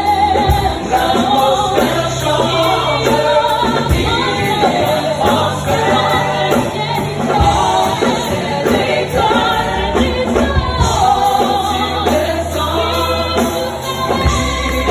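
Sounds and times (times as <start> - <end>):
congregation singing gospel song: 0.0 - 14.9
regular drum beat: 0.0 - 14.9
steady bass notes: 0.0 - 14.9.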